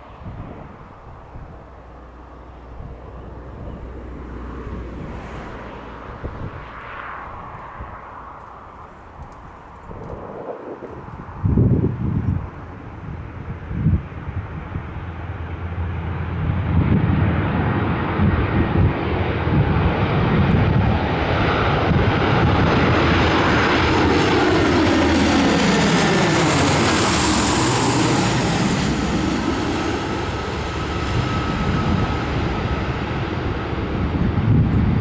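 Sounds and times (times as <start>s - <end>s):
turboprop aircraft engines: 0.0s - 35.0s.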